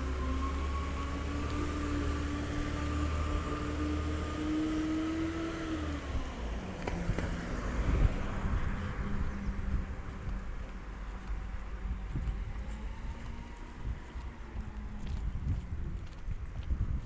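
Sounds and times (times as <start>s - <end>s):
garbage truck engine whine: 0.0s - 15.9s.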